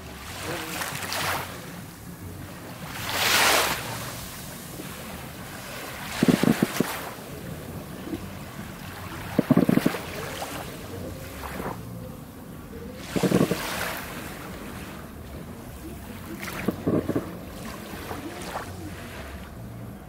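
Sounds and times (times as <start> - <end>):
waves breaking: 0.0 - 20.0
waves lapping on sandy beach: 0.0 - 20.0.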